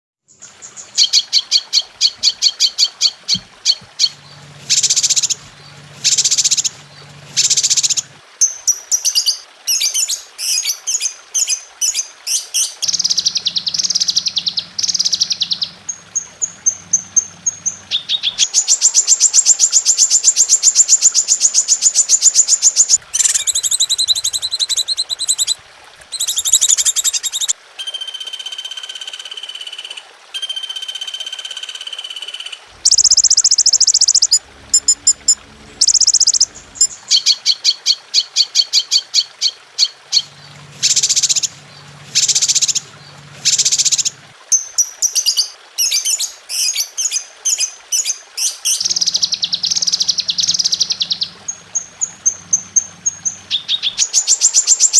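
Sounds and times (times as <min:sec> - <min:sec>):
songbirds singing: 0:00.2 - 0:27.6, 0:32.7 - 0:54.9.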